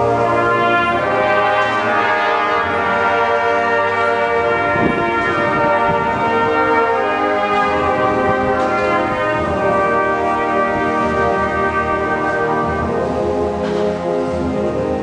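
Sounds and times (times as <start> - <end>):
slow ceremonial brass music: 0.0 - 15.0.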